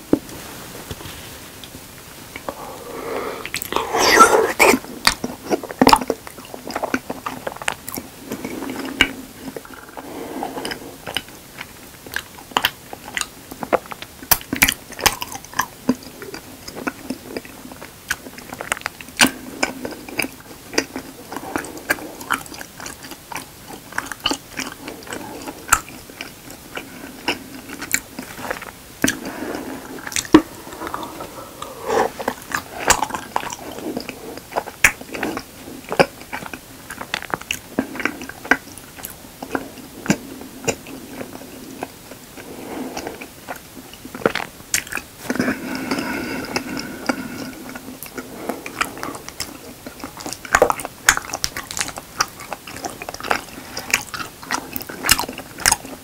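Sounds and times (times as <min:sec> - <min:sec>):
person chewing wet sticky smacks: 0:03.4 - 0:56.0.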